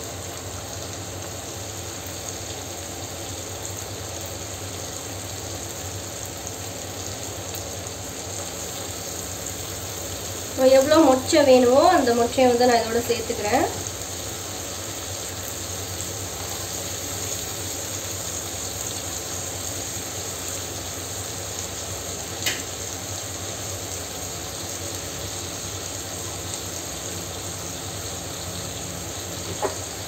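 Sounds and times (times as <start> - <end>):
beans and vegetables sizzling in oil: 0.0 - 30.0.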